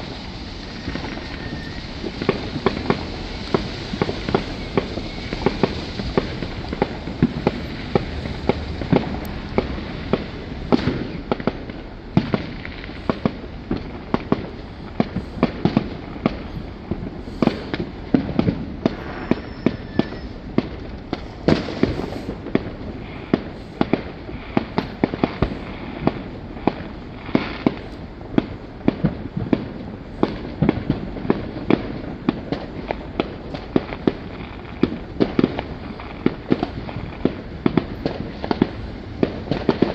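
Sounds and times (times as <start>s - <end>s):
fireworks bangs and cracks: 0.0s - 39.9s
rumble of distant fireworks: 0.0s - 39.9s.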